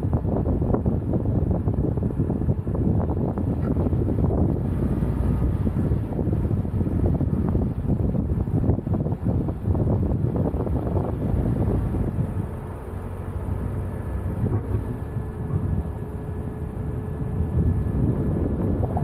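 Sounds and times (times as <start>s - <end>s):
engine and tyres rumbling on sand: 0.0s - 19.0s
wind buffeting microphone: 0.0s - 19.0s.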